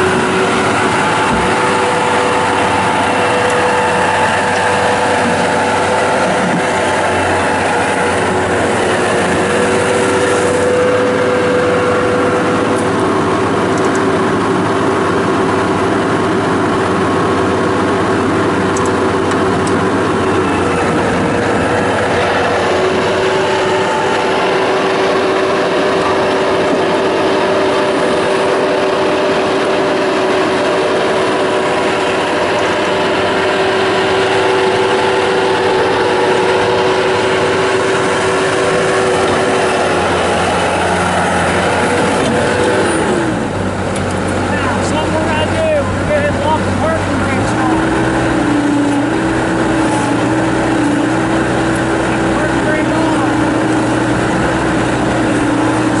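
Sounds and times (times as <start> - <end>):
diesel engine running: 0.0 - 56.0
engine whine shifting pitch: 0.0 - 56.0.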